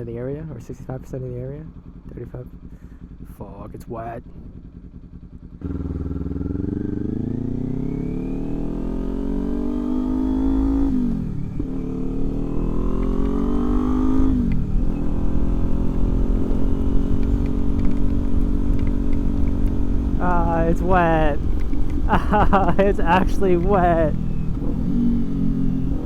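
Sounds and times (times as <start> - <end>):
motorcycle engine accelerating: 0.9 - 26.0
road and wind rush: 4.6 - 26.0.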